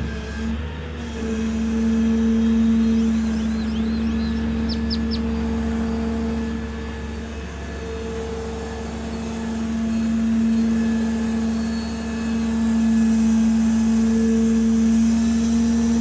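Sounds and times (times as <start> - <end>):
tow truck engine and hydraulics: 0.0 - 16.0.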